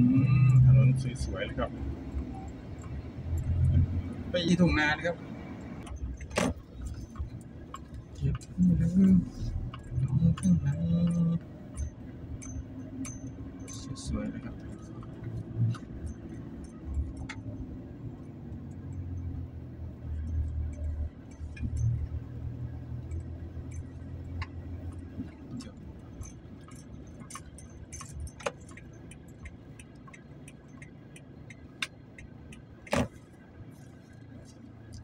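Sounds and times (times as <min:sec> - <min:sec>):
engine and tyre rumble: 0:00.0 - 0:35.0
light rattles and clicks in cab: 0:00.2 - 0:35.0.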